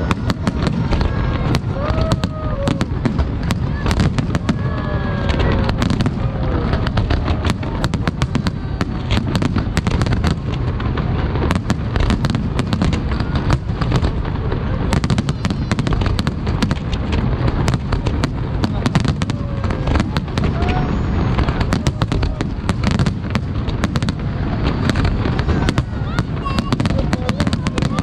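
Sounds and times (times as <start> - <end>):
deep booming rumble: 0.0 - 28.0
firework shell bursts and crackling: 0.0 - 28.0.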